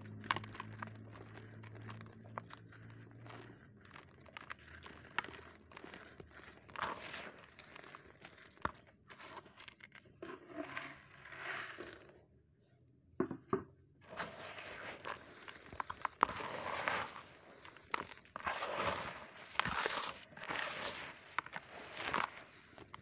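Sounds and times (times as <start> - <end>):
sand pouring through fingers: 0.0 - 9.3, 10.7 - 12.2, 14.1 - 23.0
hands crumbling dry clay: 0.0 - 10.1, 14.1 - 23.0.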